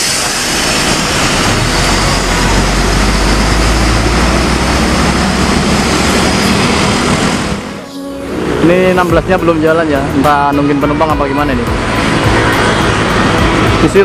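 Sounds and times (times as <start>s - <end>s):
diesel coach engine pulling away: 0.0s - 14.0s
motorbikes passing: 1.1s - 14.0s.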